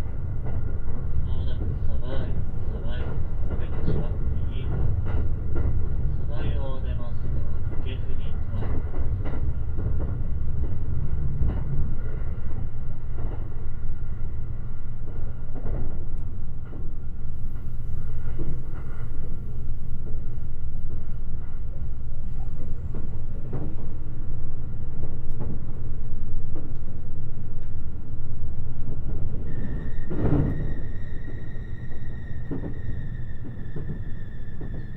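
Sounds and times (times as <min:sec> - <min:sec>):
train rumbling inside car: 0:00.0 - 0:34.9.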